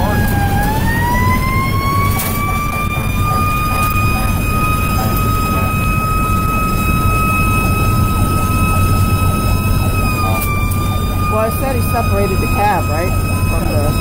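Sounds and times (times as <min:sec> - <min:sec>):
fire engine siren: 0:00.0 - 0:14.0
road noise: 0:00.0 - 0:14.0
truck engine rumble: 0:00.0 - 0:14.0.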